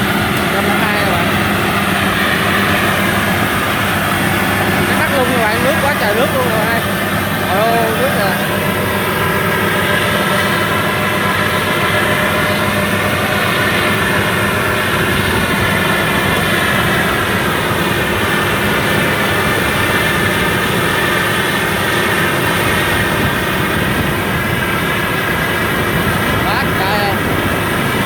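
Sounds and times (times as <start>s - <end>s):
combine harvester engine droning: 0.0s - 28.0s
harvester machinery turning: 0.0s - 28.0s.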